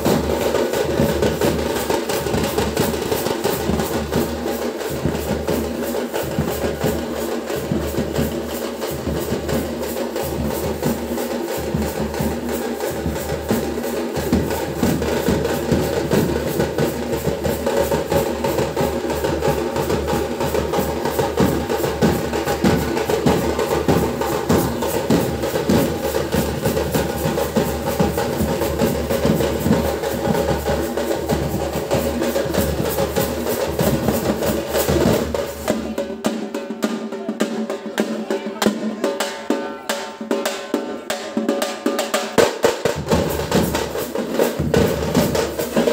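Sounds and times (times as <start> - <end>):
drums playing fast beats: 0.0 - 45.9
music: 0.0 - 45.9.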